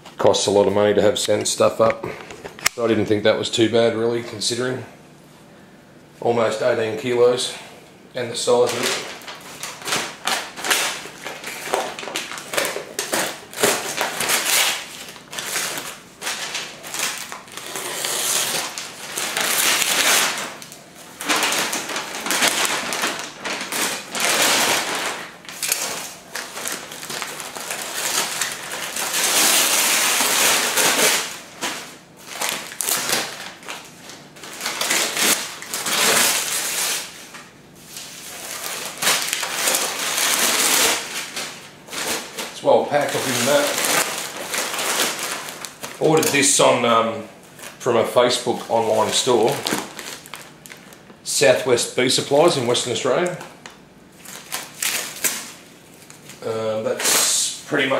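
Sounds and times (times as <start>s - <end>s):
packing material rustling: 8.4s - 57.9s.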